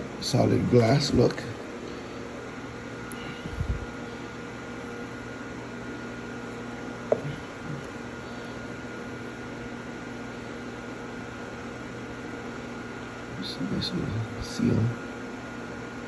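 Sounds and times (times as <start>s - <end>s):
fan hum with hiss: 0.0s - 16.0s.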